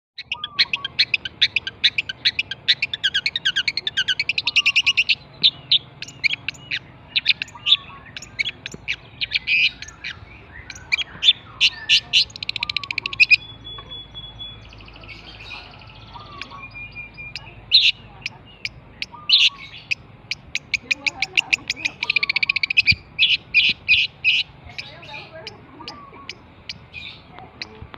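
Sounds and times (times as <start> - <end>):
bird chattering song: 0.2 - 27.9.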